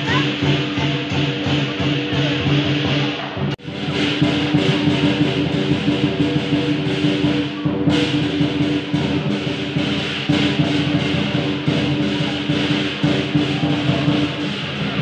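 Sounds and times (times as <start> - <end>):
light percussion: 0.0 - 15.0.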